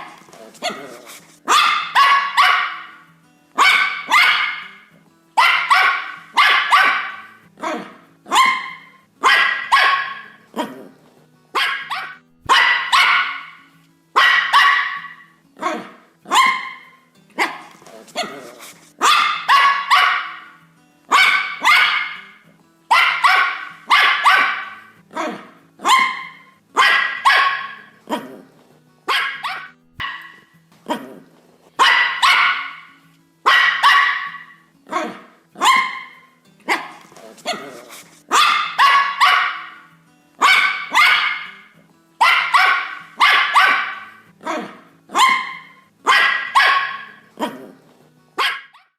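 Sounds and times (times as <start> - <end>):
dog barking: 0.0 - 10.8, 11.6 - 28.4, 29.1 - 31.1, 31.8 - 47.8, 48.4 - 48.9.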